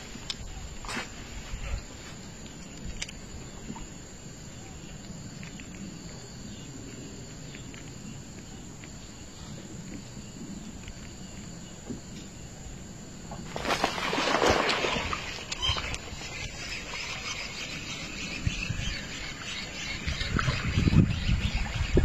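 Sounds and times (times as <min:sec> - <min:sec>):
faint insect chirping: 0:00.0 - 0:22.0.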